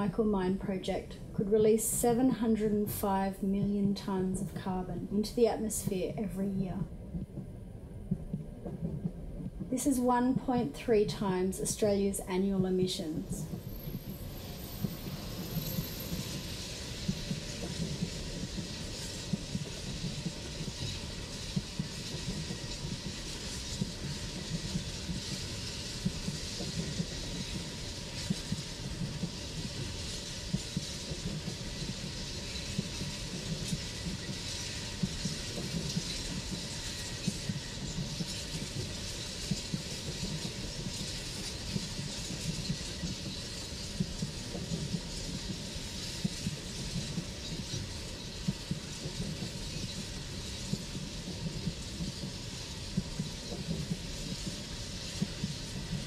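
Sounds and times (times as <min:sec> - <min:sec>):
train wagons rumbling on track: 0:00.0 - 0:56.0.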